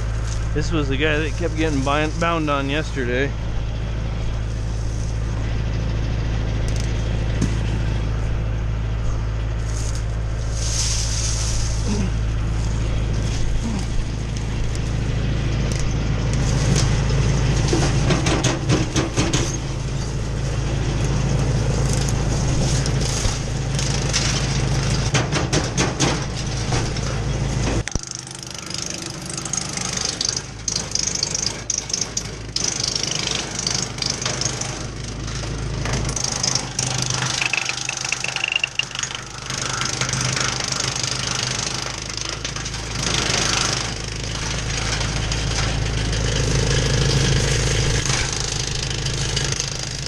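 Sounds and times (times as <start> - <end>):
tractor engine drone: 0.0 - 50.0
wood chipper running: 0.0 - 50.0.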